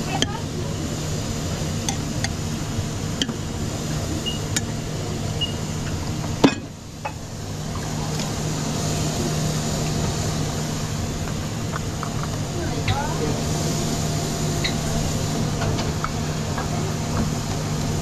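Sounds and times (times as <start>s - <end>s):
kitchen mechanical hum: 0.0s - 18.0s.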